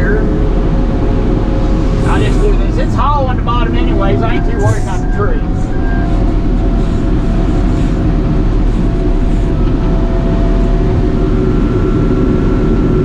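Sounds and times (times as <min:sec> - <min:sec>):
diesel engine running under load: 0:00.0 - 0:13.0
faint steady whine: 0:00.0 - 0:13.0.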